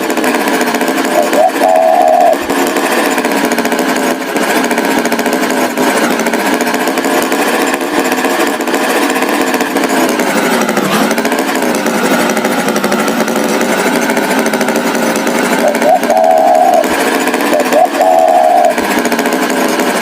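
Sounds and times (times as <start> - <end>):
cartoon tractor engine chugging: 0.0 - 20.0.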